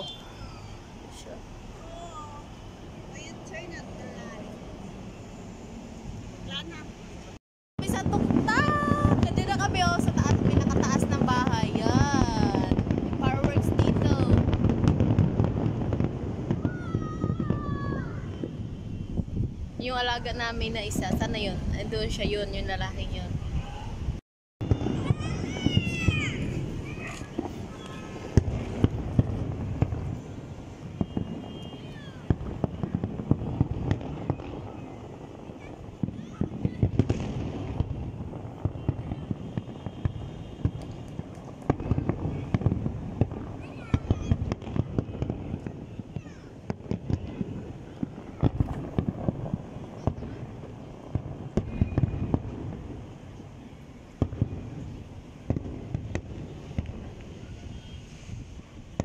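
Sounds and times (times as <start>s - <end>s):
fireworks bangs: 0.0s - 59.0s.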